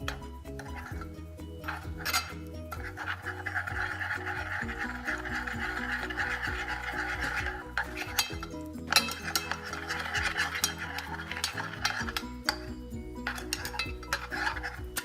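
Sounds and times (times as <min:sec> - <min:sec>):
background music: 0:00.0 - 0:15.0
spoon clinking in a cup: 0:00.0 - 0:15.0.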